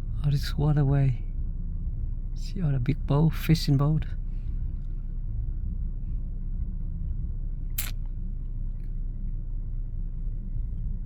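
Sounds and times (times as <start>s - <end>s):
car idling: 0.0s - 11.0s.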